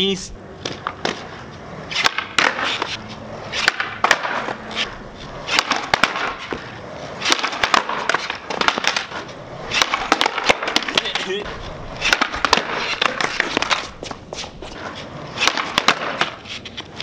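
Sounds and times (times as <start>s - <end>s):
skateboard rolling on concrete: 0.1s - 17.0s
skateboard clacks: 0.5s - 17.0s.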